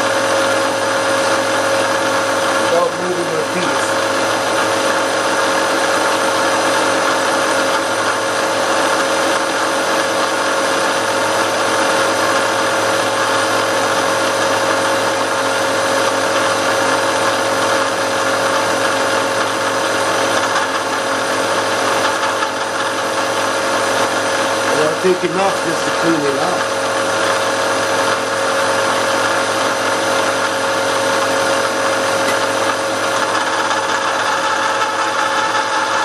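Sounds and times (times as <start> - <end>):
milling machine humming: 0.0 - 36.0.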